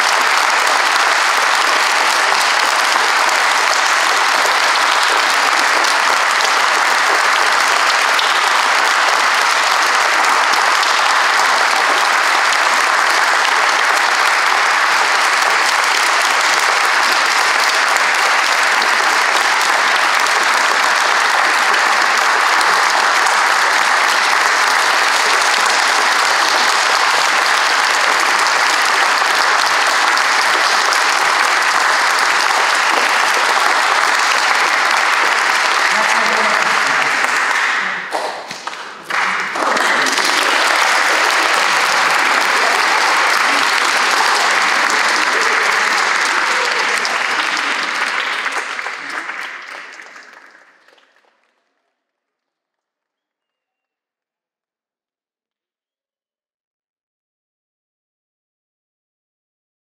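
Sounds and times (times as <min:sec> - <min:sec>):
audience applauding: 0:00.0 - 0:52.0.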